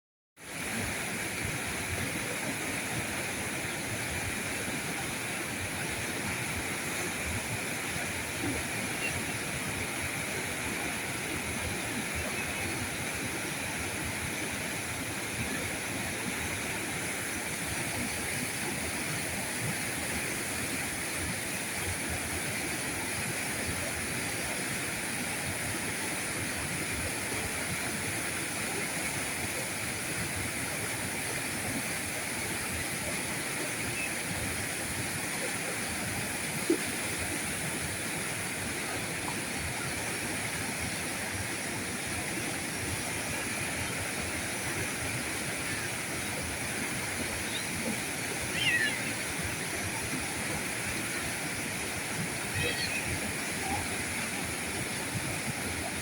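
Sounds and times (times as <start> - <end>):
river water rushing: 0.4 - 56.0.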